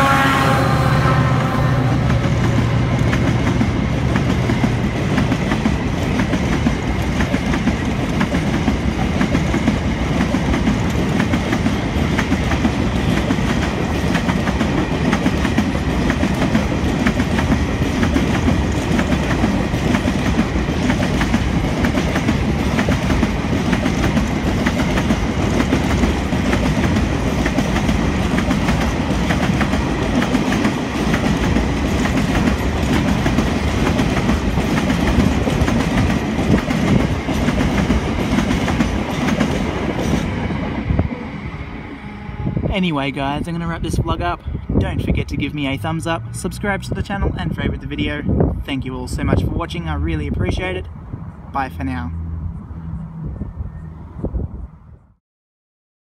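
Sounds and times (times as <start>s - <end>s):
train rumbling past: 0.0s - 55.2s.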